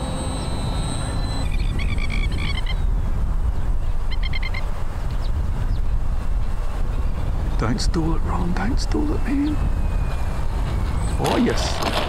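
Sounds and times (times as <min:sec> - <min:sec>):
electric motor whine: 0:00.0 - 0:12.0
wind rumbling on microphone: 0:00.0 - 0:12.0.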